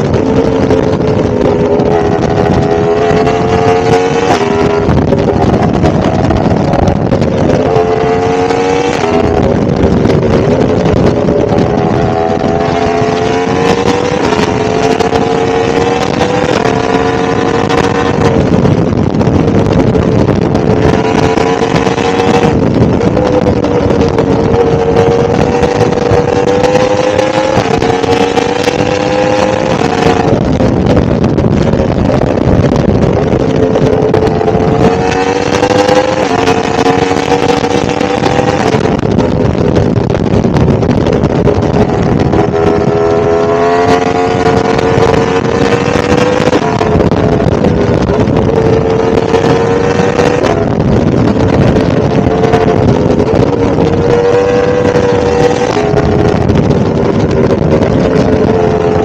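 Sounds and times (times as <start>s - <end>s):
motorcycle engine revving: 0.0s - 59.0s
wind on microphone: 0.0s - 59.0s.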